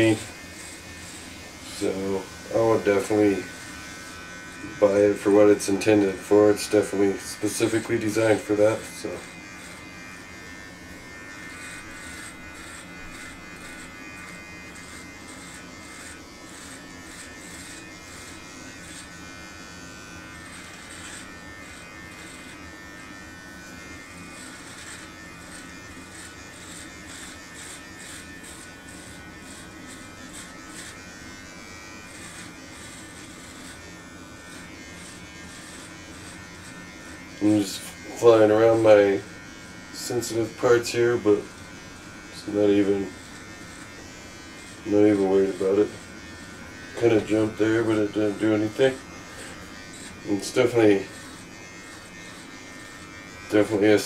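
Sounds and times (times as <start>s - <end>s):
electric trimmer buzzing: 0.0s - 54.0s.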